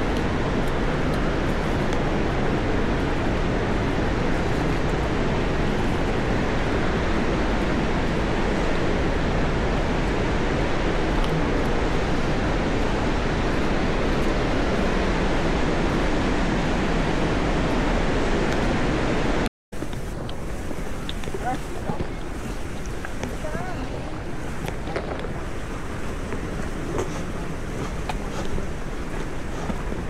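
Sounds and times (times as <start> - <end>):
river rapids roaring: 0.0 - 30.0.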